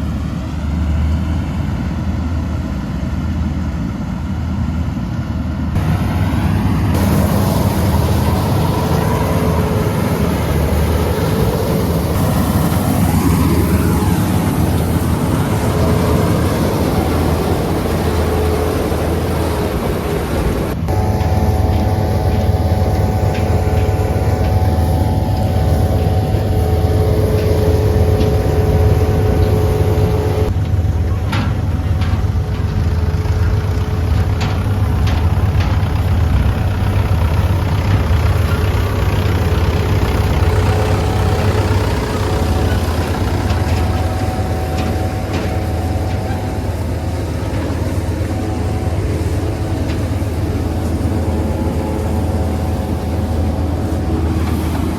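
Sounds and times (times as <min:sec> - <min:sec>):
diesel engine running: 0:00.0 - 0:54.9
steady whine: 0:03.6 - 0:54.9.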